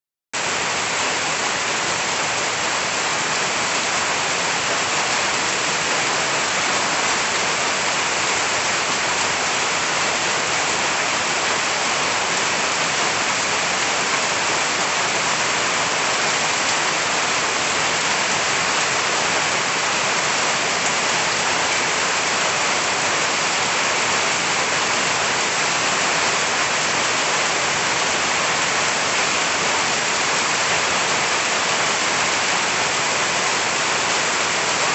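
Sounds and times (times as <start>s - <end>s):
heavy rain on leaves: 0.4s - 34.9s.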